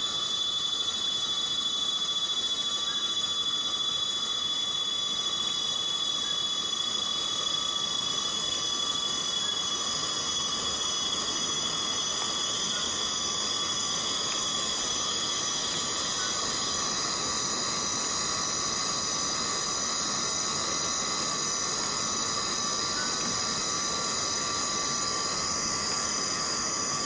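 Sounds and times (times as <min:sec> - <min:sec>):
high-pitched insect chorus: 0:00.0 - 0:27.0
rain hiss: 0:00.0 - 0:27.0.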